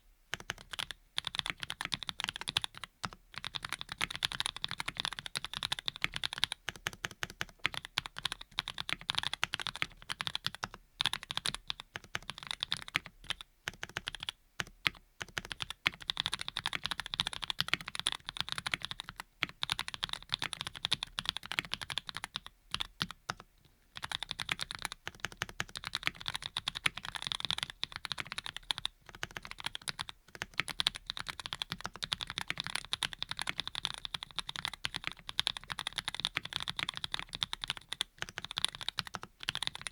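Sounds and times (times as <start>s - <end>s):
mechanical keyboard typing: 0.3s - 23.4s, 24.0s - 39.9s.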